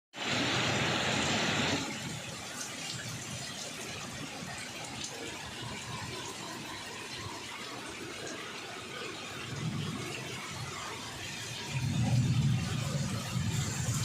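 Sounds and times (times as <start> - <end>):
steady rain hiss: 0.2 - 14.0.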